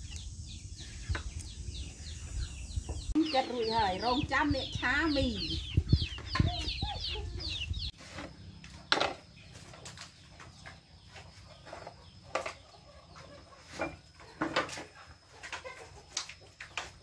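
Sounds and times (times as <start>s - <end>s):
chicken clucking: 1.2s - 8.9s, 10.2s - 17.0s.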